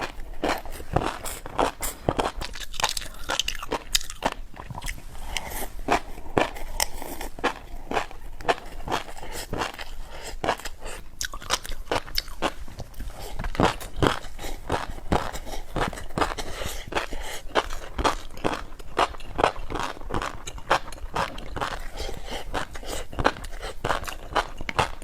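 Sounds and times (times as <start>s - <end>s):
chewing crunchy snack: 0.0s - 25.0s.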